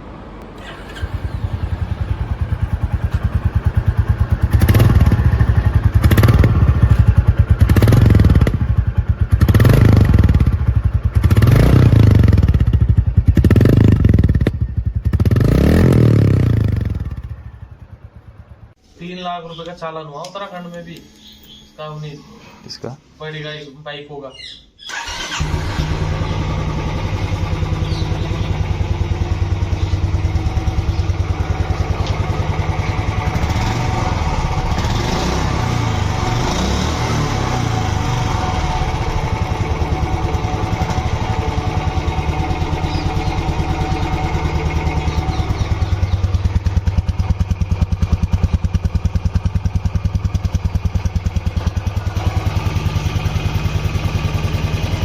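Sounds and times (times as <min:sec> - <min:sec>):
motorcycle engine revving: 0:00.4 - 0:18.8, 0:24.9 - 0:55.0.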